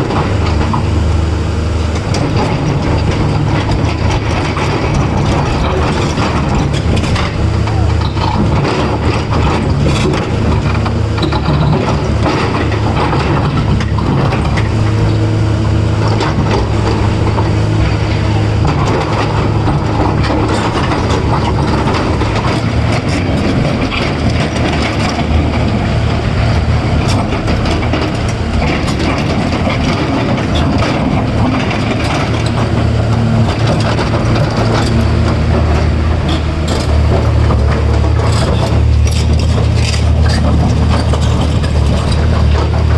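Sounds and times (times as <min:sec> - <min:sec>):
excavator diesel engine running: 0:00.0 - 0:42.9
metal clanks and knocks: 0:01.8 - 0:42.9.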